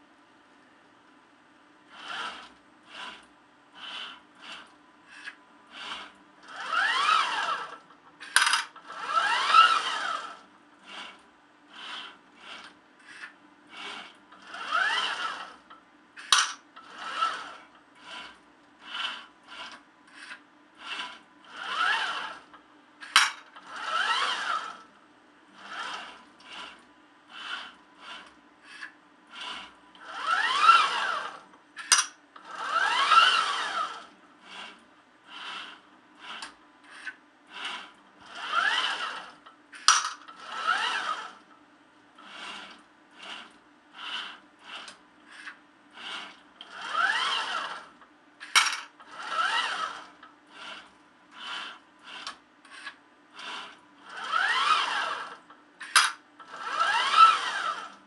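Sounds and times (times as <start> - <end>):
robot arm servos whirring: 1.9 - 41.6, 42.2 - 58.0.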